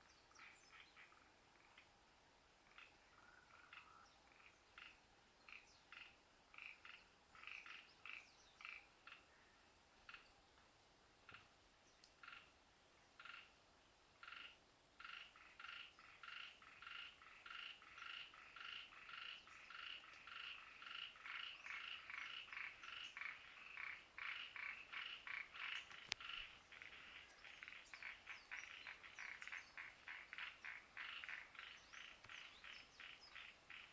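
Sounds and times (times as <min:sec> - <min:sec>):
frogs calling: 0:02.6 - 0:10.4, 0:11.3 - 0:12.6, 0:13.2 - 0:13.6, 0:14.2 - 0:33.9.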